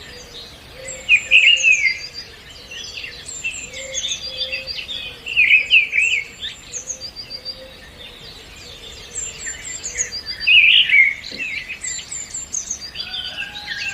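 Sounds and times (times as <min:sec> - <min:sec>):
birds chirping and whistling: 0:00.0 - 0:13.9.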